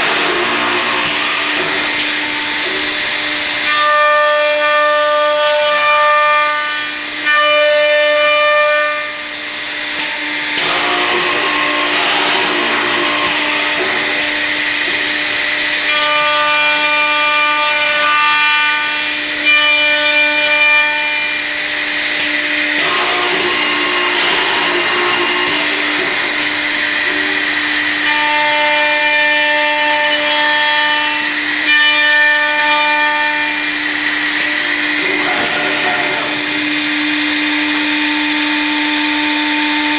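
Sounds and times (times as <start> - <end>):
steady machine hum: 0.0 - 7.3, 8.9 - 39.9
drill bits cutting wood: 0.0 - 39.9
machine spindles whining: 0.0 - 39.9.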